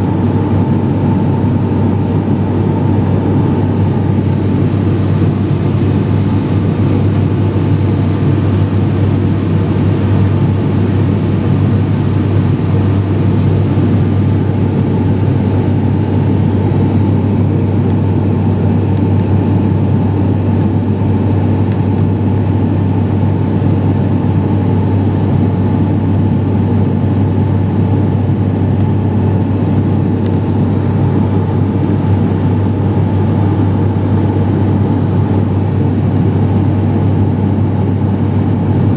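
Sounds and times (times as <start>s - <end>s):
turboprop cabin drone: 0.0s - 38.9s.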